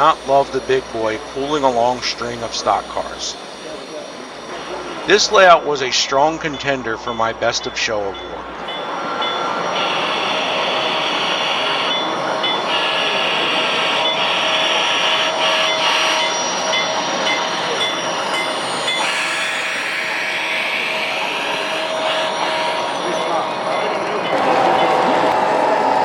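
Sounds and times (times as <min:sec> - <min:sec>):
faint steady tones: 0:00.0 - 0:24.9
model train running on track: 0:00.0 - 0:26.0.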